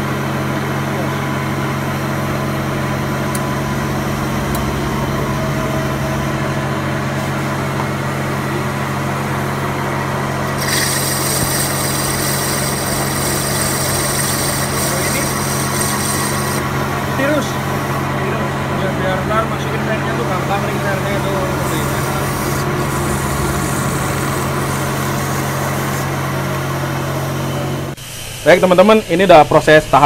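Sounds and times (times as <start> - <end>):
high whine of cutting tool: 0.2 - 28.0
metal lathe humming: 0.9 - 28.0.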